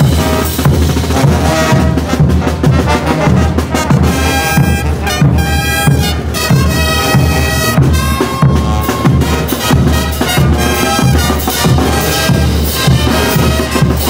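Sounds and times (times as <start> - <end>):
bass drum beat: 0.0 - 14.0
brass band playing: 0.0 - 14.0.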